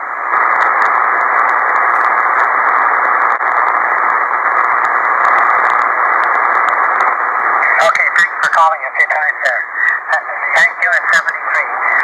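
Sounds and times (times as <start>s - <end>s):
radio receiver hiss: 0.0s - 12.0s
faint static ticks: 0.3s - 12.0s.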